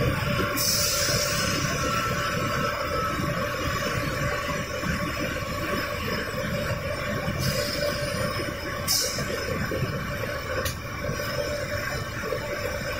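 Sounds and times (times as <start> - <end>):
centrifugal machine rumble and hum: 0.0 - 12.9.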